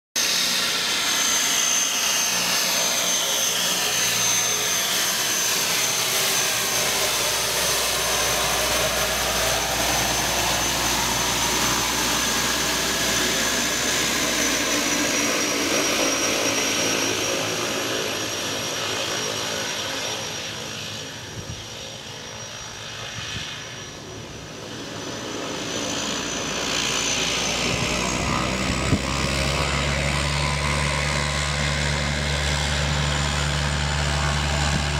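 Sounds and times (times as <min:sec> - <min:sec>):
propeller noise: 0:00.2 - 0:34.9
turboprop turbine whine: 0:00.2 - 0:34.9.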